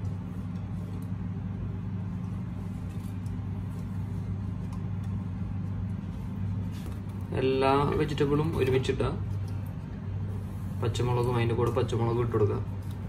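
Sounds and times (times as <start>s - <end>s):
steady low motor hum: 0.0s - 13.0s.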